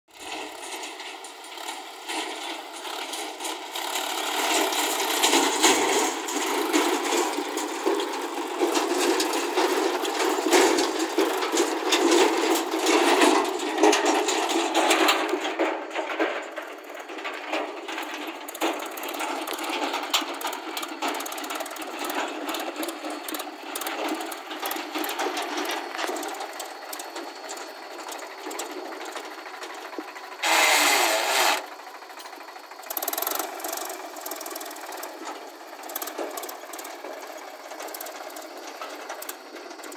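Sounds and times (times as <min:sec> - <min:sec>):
steel trolley rattling and clanking: 0:00.1 - 0:39.9
tractor diesel engine running: 0:00.1 - 0:39.9.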